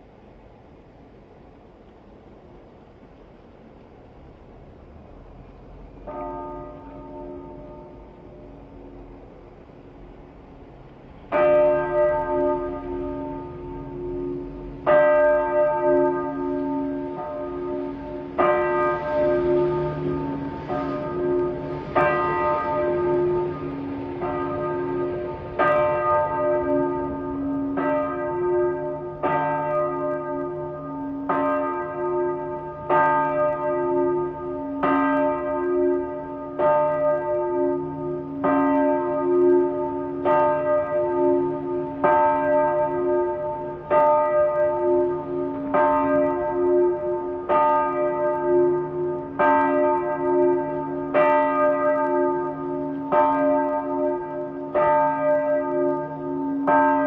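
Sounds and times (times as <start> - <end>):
church bell tolling: 6.0 - 9.3, 11.2 - 57.0.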